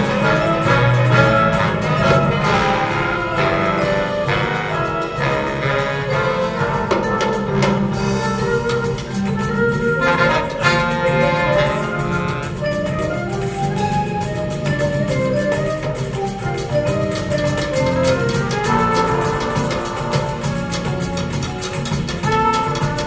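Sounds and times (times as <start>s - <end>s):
jazz big band playing: 0.0s - 23.0s.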